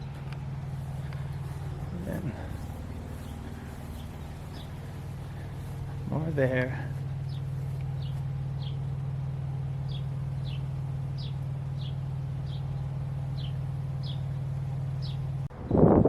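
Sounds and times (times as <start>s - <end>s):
songbird chirping: 0.0s - 15.4s
low engine hum: 0.0s - 16.0s.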